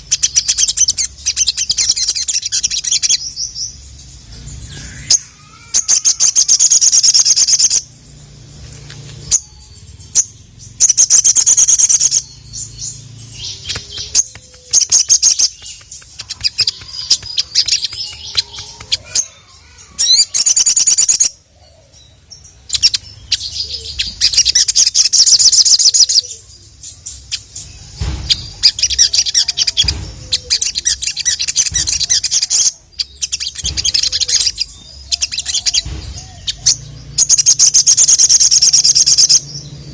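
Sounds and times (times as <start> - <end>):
sunbird singing fast trills: 0.0 - 39.9.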